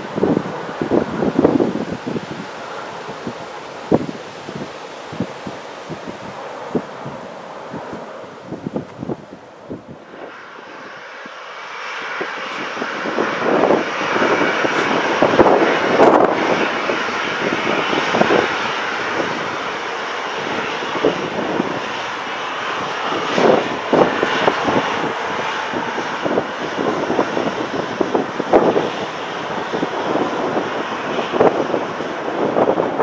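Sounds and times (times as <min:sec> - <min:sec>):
jet engines running: 0:00.0 - 0:33.0
wind buffeting microphone: 0:00.0 - 0:33.0.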